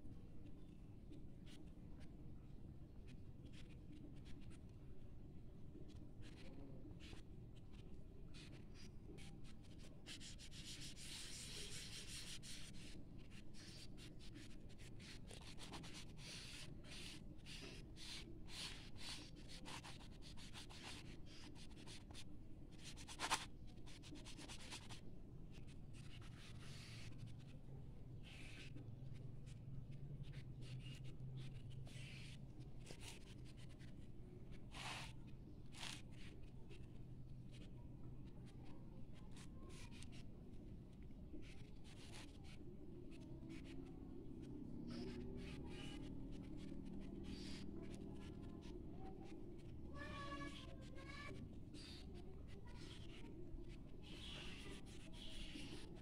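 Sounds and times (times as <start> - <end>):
pastel scratching on paper: 3.5 - 4.6, 5.8 - 25.0, 25.6 - 27.5, 28.2 - 34.0, 34.6 - 37.7, 38.6 - 40.2, 41.3 - 53.3, 54.0 - 56.0.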